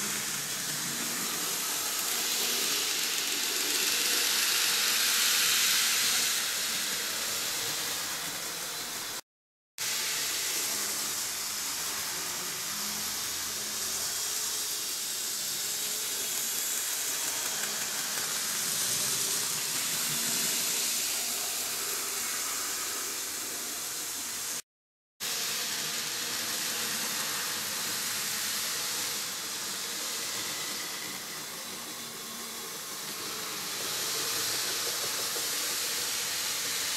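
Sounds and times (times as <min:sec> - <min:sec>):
model trains whirring on track: 0:00.0 - 0:09.2, 0:09.8 - 0:24.6, 0:25.2 - 0:36.9.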